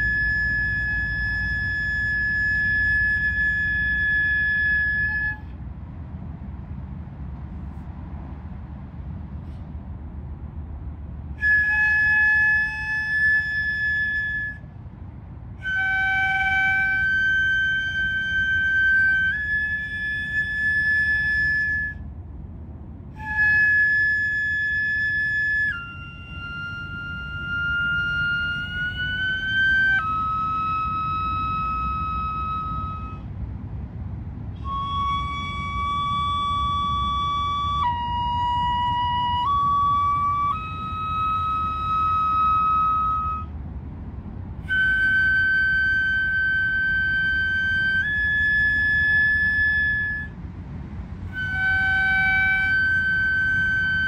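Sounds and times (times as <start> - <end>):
bamboo flute playing solo: 0.0 - 5.6, 11.3 - 22.2, 23.1 - 33.4, 34.5 - 43.7, 44.5 - 54.0
low rumble: 0.0 - 54.0.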